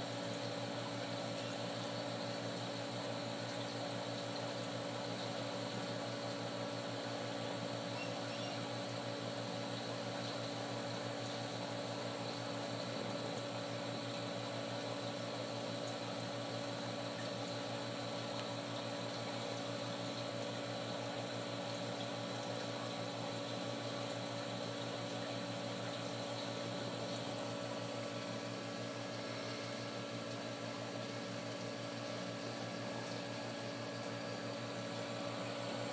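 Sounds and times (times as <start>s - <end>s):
aquarium pump hum: 0.0s - 35.9s.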